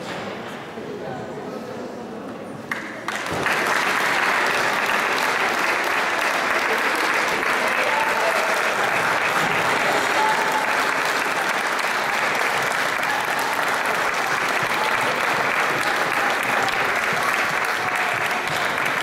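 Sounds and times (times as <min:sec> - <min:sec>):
crowd applauding: 0:02.7 - 0:19.0.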